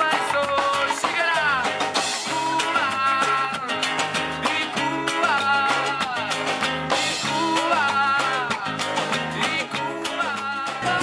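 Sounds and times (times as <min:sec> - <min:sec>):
conga drums rhythm: 0:00.0 - 0:11.0
man singing: 0:00.0 - 0:11.0
strummed acoustic guitar: 0:00.0 - 0:11.0.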